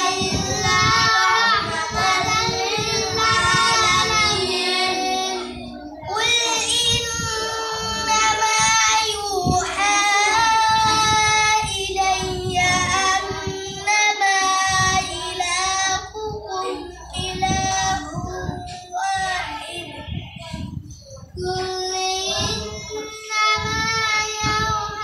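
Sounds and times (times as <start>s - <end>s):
boy chanting recitation: 0.0s - 25.0s.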